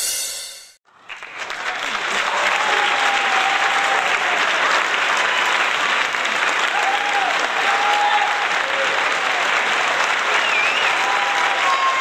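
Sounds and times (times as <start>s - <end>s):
audience applauding: 0.9s - 12.0s.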